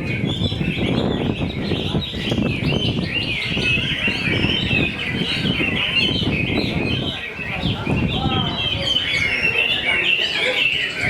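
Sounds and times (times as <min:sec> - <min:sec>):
birds singing: 0:00.0 - 0:11.0.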